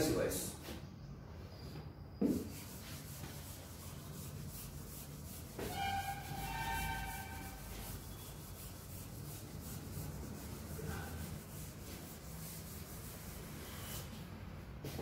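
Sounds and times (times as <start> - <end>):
duster rubbing on chalkboard: 2.2 - 15.0.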